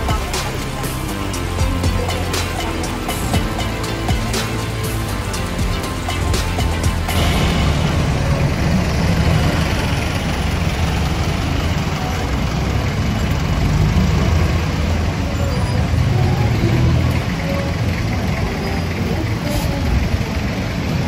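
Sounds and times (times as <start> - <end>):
low engine rumble of traffic: 0.0 - 21.0.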